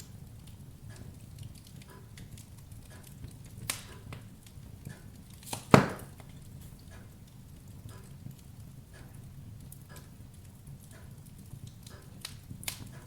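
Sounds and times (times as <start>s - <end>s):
fire crackling: 0.0s - 13.0s
low rumble of fire: 0.0s - 13.0s
wood fire popping: 0.0s - 13.0s.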